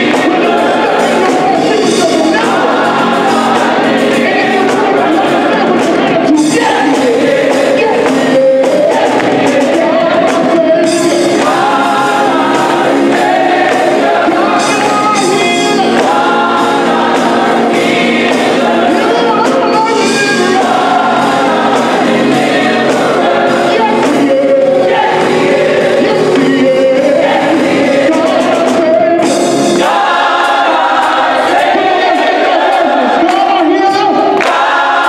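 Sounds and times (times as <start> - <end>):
gospel choir singing: 0.0 - 35.0
live band playing: 0.0 - 35.0.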